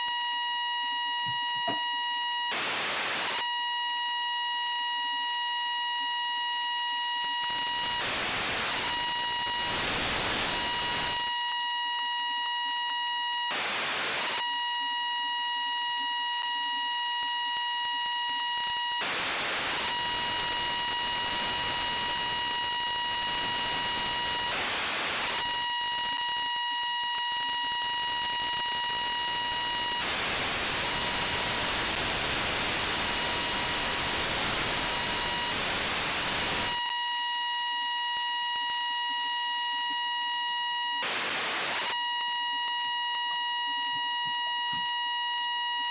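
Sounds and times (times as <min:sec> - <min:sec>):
steady radio tone: 0:00.0 - 0:45.9
radio static hiss: 0:01.1 - 0:45.0.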